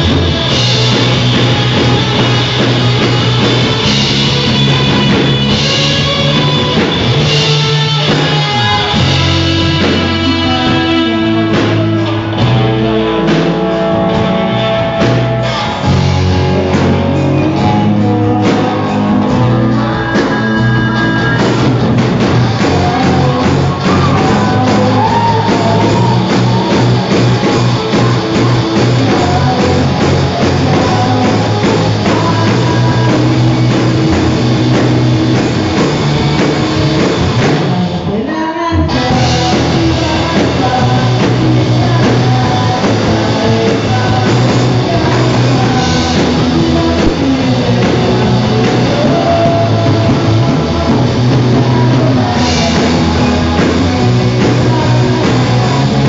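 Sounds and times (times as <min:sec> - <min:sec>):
drum kit: 0:00.0 - 0:56.0
electric guitars: 0:00.0 - 0:56.0
person singing: 0:00.0 - 0:56.0.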